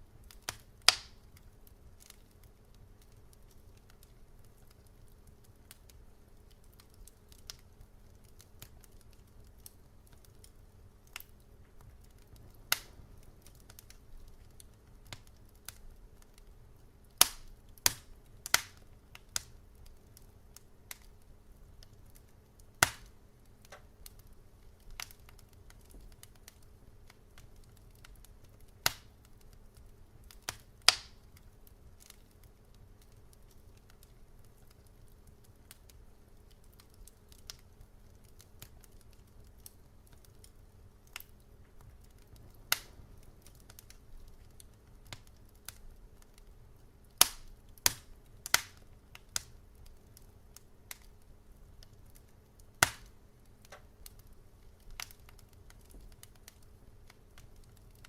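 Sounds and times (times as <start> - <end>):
faint low hum: 0.0 - 58.0
wood fire crackling: 0.0 - 58.0.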